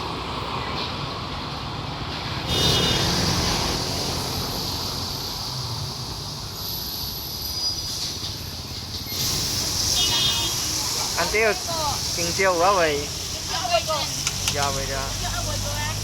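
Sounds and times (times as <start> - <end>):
passing traffic: 0.0 - 16.0
loud hiss: 2.5 - 16.0.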